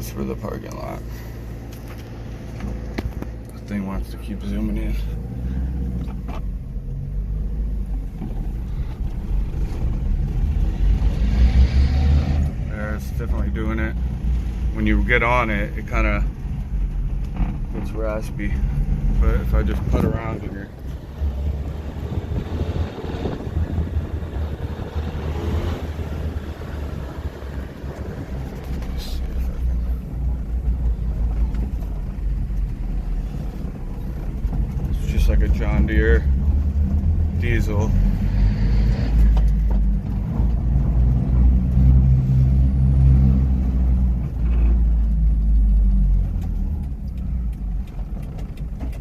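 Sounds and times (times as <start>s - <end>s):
truck engine running while driving: 0.0s - 49.0s.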